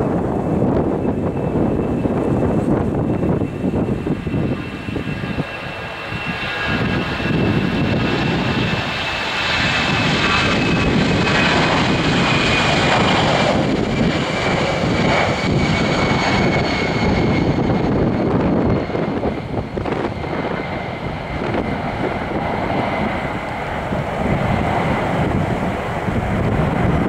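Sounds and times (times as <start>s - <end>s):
jet engines at take-off: 0.0s - 27.0s.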